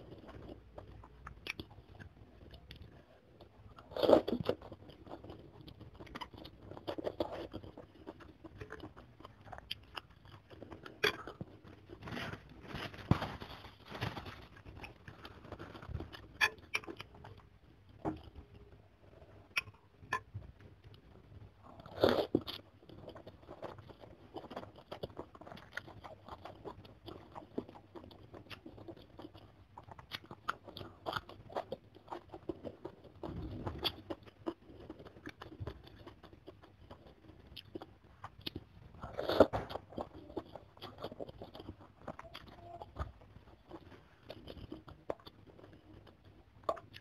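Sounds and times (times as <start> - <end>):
wet chewing and crunching: 0.0 - 47.0.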